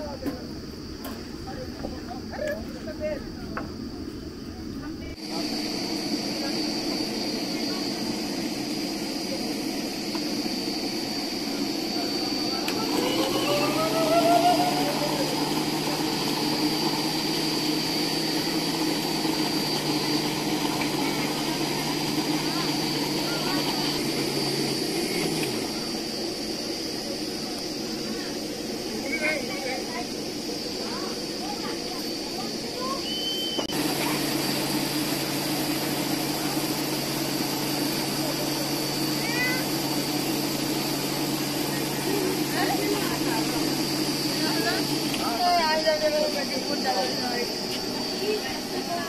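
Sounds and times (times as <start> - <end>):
motor running with high whine: 4.7 - 49.0.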